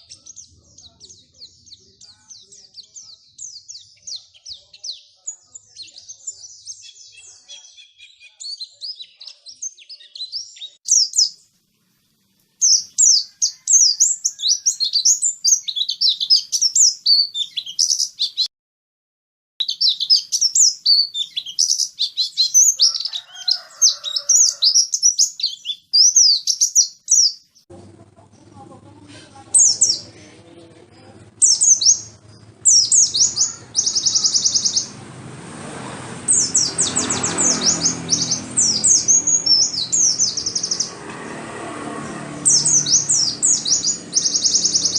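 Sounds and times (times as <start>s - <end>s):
bird twittering song: 0.0s - 18.5s, 19.6s - 27.7s, 29.5s - 30.2s, 31.3s - 35.0s, 36.3s - 41.0s, 42.5s - 44.9s.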